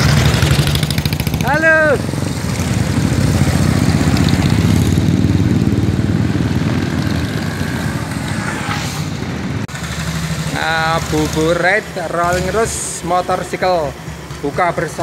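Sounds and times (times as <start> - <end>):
motorcycle engines passing by: 0.0 - 15.0.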